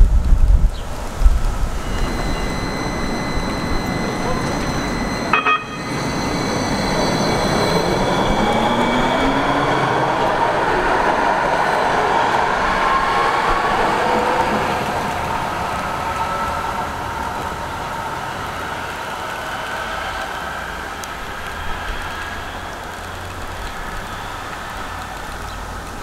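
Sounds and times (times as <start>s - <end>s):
electric traction drive whine: 0.0s - 26.0s
wheel and rail noise: 0.0s - 26.0s.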